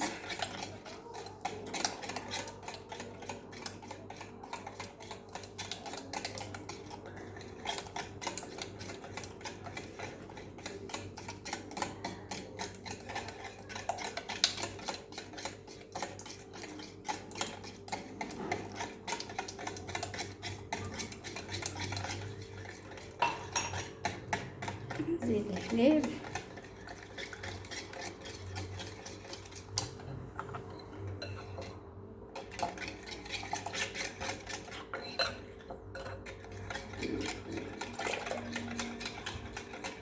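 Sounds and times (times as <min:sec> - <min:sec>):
whisk scraping a bowl: 0:00.0 - 0:40.0.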